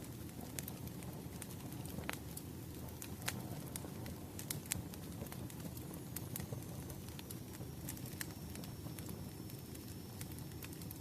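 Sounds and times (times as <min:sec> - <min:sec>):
fire crackles and pops: 0:00.0 - 0:11.0
low rumble of flames: 0:00.0 - 0:11.0.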